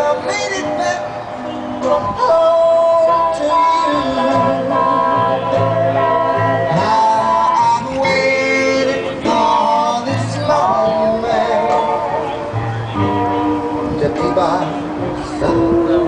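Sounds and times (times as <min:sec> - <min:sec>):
country song with guitar: 0:00.0 - 0:16.0
person singing: 0:01.8 - 0:12.6, 0:13.9 - 0:16.0.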